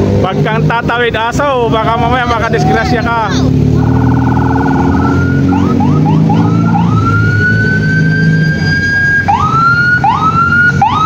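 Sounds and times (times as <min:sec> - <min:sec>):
vehicle engine running: 0:00.0 - 0:11.0
electronic siren yelping and wailing: 0:02.1 - 0:11.0.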